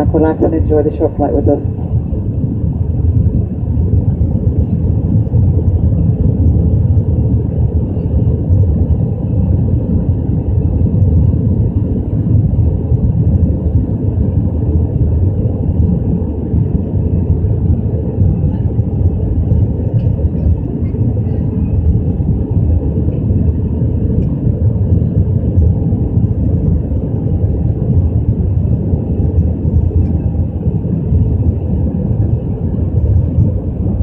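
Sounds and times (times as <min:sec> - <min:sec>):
airplane engines rumbling: 0:00.0 - 0:34.0.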